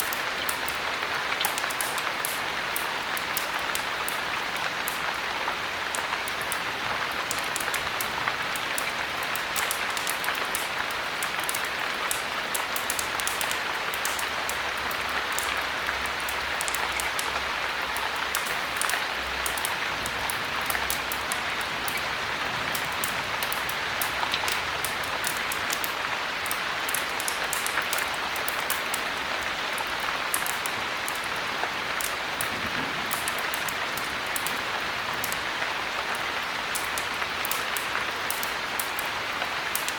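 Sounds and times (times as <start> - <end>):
heavy rain falling: 0.0 - 39.9
sharp raindrop ticks: 0.0 - 39.9.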